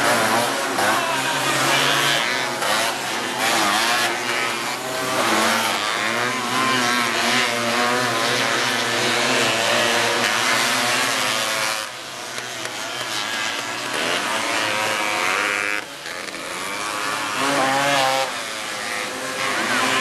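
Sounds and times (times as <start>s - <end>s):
racing buggy engines revving: 0.0s - 20.0s.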